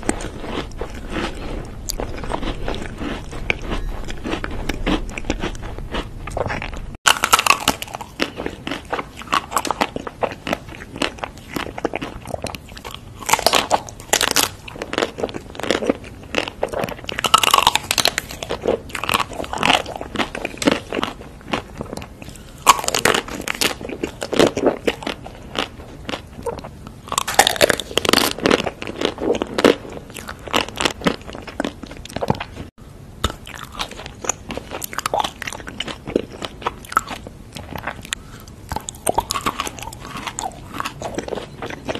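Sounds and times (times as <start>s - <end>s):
crunchy bites: 0.0s - 41.9s
person chewing: 0.0s - 41.9s.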